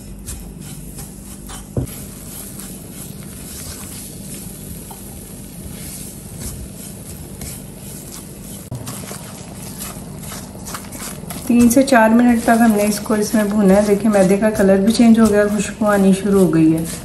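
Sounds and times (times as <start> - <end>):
butter and flour sizzling: 0.0 - 17.0
spatula scraping a pan: 0.0 - 17.0.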